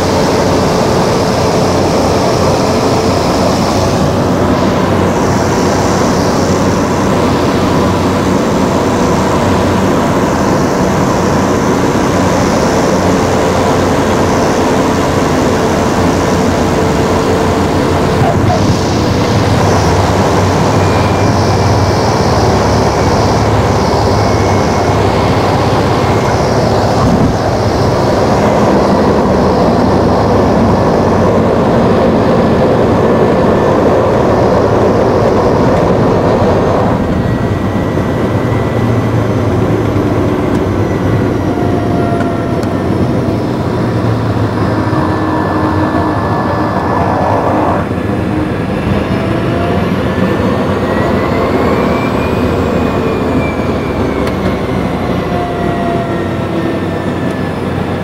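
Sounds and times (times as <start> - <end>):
airplane engine drone in cabin: 0.0 - 58.0
plane rolling on runway rumble: 0.0 - 58.0.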